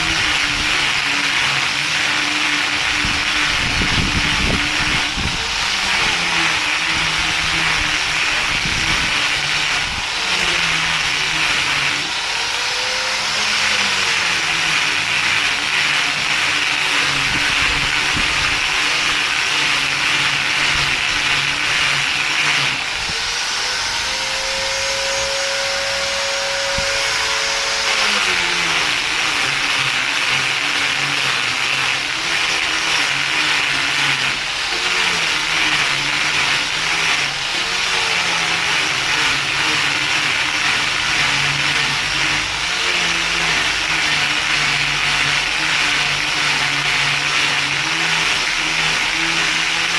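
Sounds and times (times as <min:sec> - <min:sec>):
motor running: 0:00.0 - 0:49.9.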